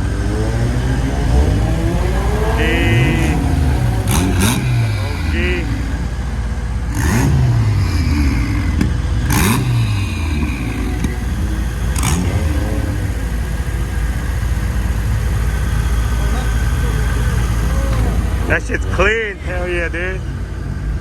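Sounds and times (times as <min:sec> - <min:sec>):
car engines revving: 0:00.0 - 0:21.0
low engine rumble: 0:00.0 - 0:21.0.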